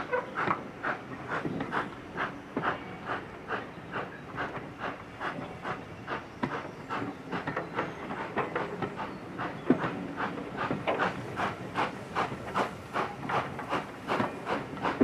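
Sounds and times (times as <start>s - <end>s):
steam locomotive exhaust chuffing: 0.0s - 15.0s
train wheels clicking on rails: 0.0s - 15.0s.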